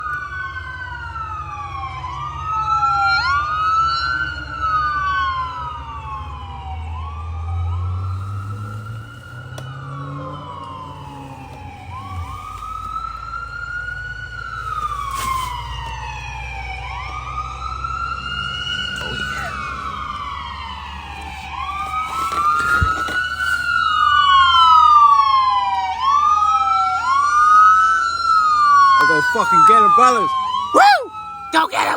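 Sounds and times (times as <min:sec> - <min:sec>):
fire engine wail sirens: 0:00.0 - 0:31.9.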